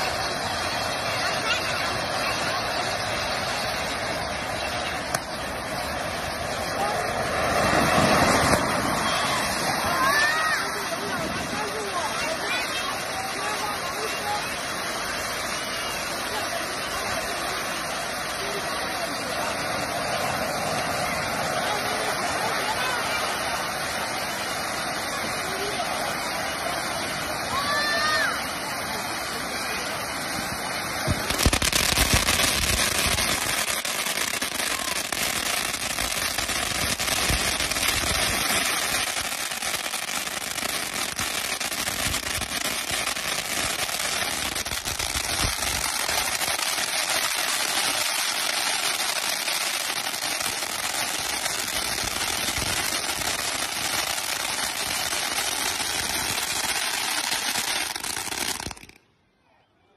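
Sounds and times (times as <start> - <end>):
firework hissing and crackling: 0.0 - 59.0.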